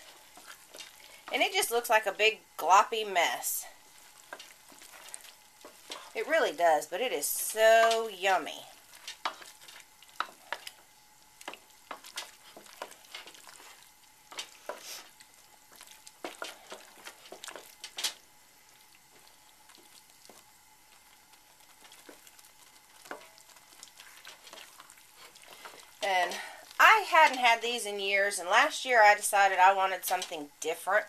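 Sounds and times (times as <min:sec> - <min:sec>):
wooden spoon stirring thick mixture: 0:00.0 - 0:30.5.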